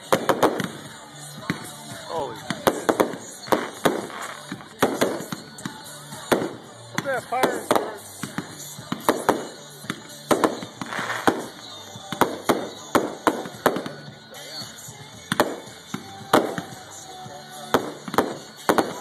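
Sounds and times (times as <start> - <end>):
firework shells bursting: 0.0 - 0.9, 2.5 - 14.1, 15.3 - 16.9, 17.6 - 19.0.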